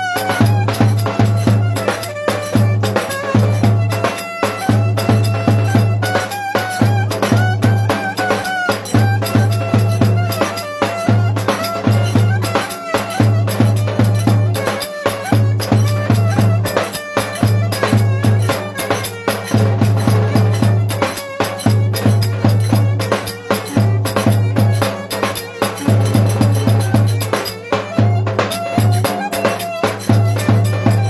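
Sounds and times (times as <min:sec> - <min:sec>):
folk dance music: 0:00.0 - 0:31.0
percussion ticking: 0:00.0 - 0:31.0.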